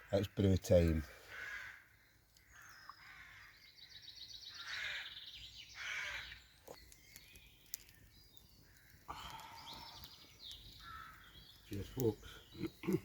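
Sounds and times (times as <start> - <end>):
harsh caw-like bird calls: 0.0 - 6.6, 8.5 - 13.0.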